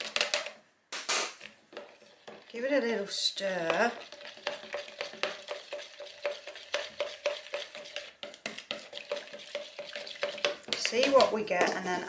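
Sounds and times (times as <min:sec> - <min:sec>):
spoon scraping plastic jug: 0:01.7 - 0:12.0.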